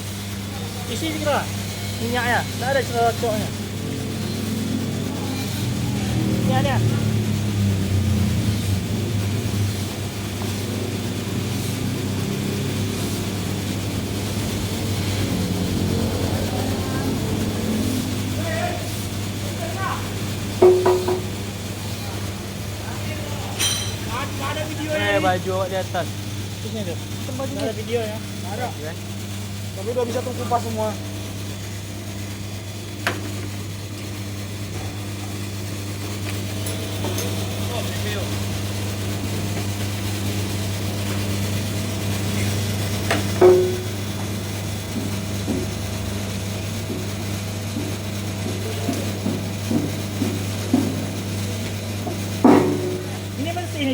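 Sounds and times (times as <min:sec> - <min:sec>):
machine motor humming: 0:00.2 - 0:53.9.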